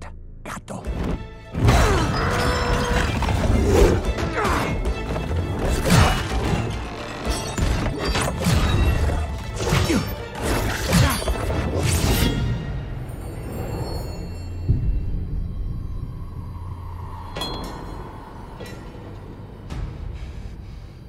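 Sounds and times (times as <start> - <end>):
dramatic music: 0.0 - 21.0.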